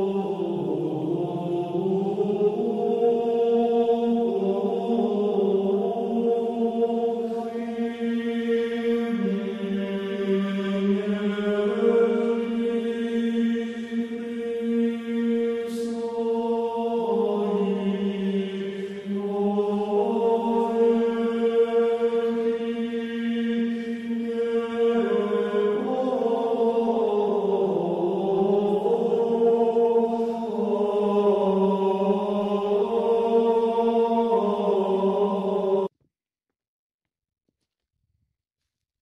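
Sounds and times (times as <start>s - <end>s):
choir chanting long notes: 0.0s - 35.9s
low vocal drone: 0.0s - 35.9s.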